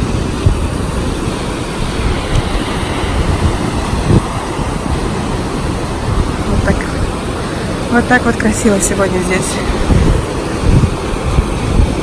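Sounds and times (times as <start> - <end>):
rough surf rushing: 0.0 - 12.0
wind buffeting microphone: 0.0 - 12.0.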